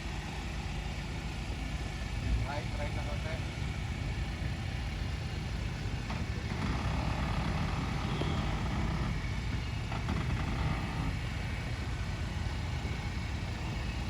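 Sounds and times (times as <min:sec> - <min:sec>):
vehicle engine low rumble: 0:00.0 - 0:14.0.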